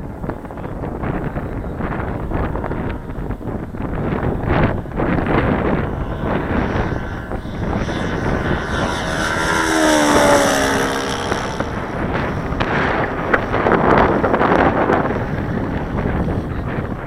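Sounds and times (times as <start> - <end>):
model airplane engine flying past: 0.0 - 17.0
wind noise on microphone: 0.0 - 17.0.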